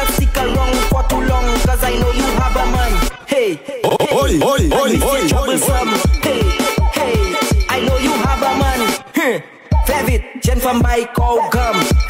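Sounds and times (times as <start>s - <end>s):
dance music with synth melody: 0.0s - 12.0s.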